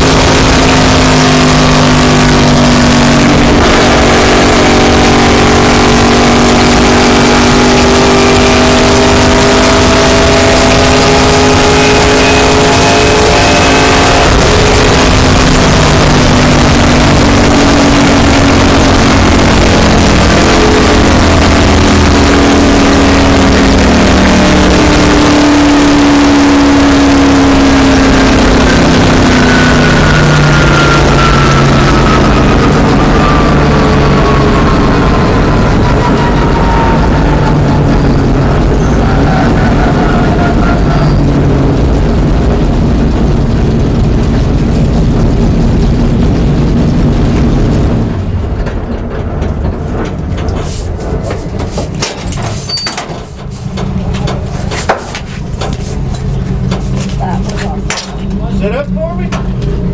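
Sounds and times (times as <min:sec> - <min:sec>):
race car engine at speed: 0:00.0 - 0:59.9.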